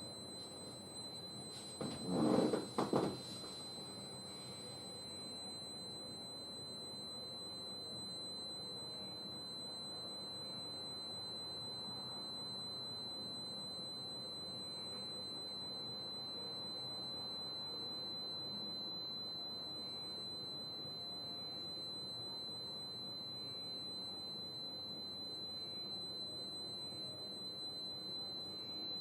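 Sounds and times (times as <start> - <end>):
steady high-pitched tone: 0.0 - 29.0.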